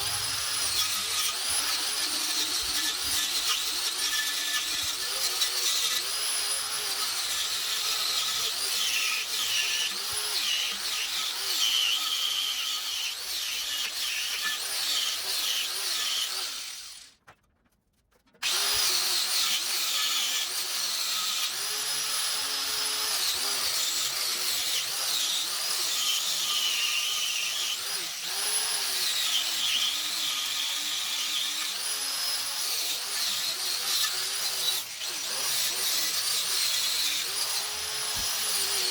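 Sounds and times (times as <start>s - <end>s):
electric power tool whining: 0.0s - 17.1s, 18.4s - 38.9s.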